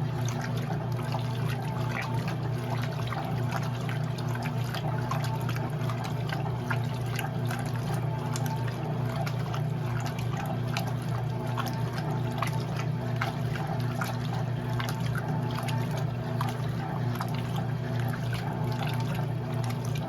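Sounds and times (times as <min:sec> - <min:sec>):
washing machine hum: 0:00.0 - 0:20.0
water splashing in washing machine: 0:00.0 - 0:20.0.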